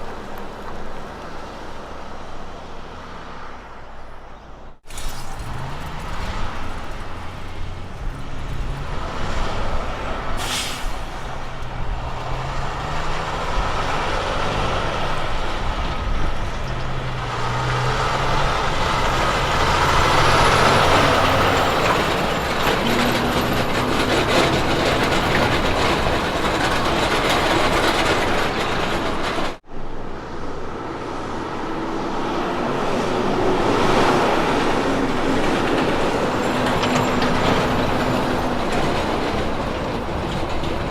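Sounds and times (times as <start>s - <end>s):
heavy truck engine: 0.0s - 40.9s
heavy vehicle passing: 0.0s - 40.9s
tyre and trailer noise: 0.0s - 40.9s.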